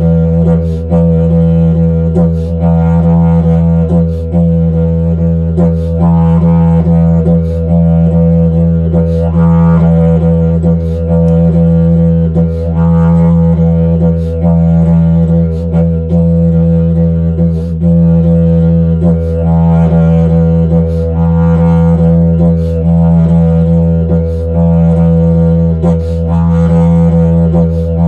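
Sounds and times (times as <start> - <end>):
didgeridoo drone: 0.0 - 28.0.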